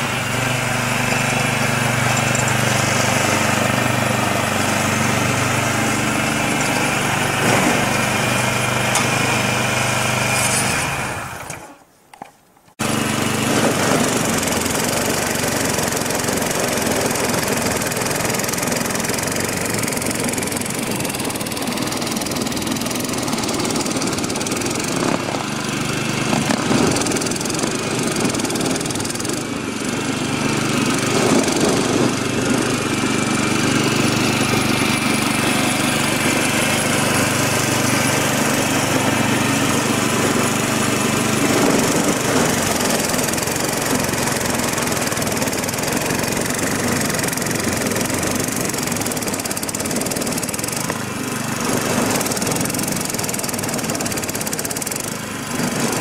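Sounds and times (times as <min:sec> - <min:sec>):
snow blower engine running: 0:00.0 - 0:11.8, 0:12.8 - 0:56.0.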